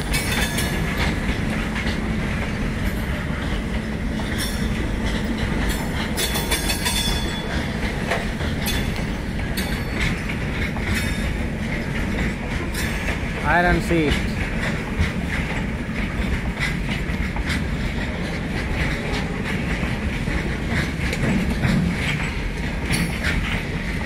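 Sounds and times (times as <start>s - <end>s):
freight wagons rumbling: 0.0s - 24.0s
wheels clacking over rail joints: 0.0s - 24.0s.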